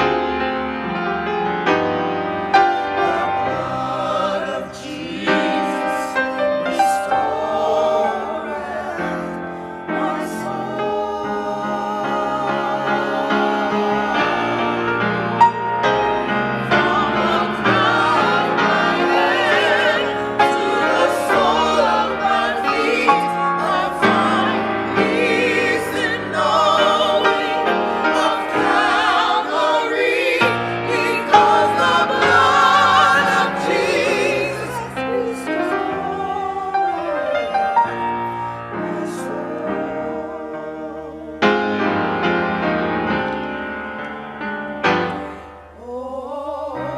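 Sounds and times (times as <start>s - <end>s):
choir singing: 0.0s - 43.8s, 44.8s - 46.9s
piano accompaniment: 0.0s - 46.9s.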